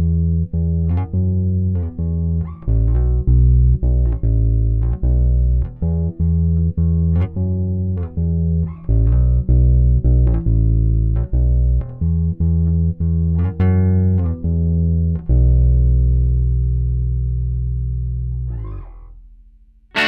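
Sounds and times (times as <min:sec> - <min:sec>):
electric bass guitar plucked notes: 0:00.0 - 0:20.0.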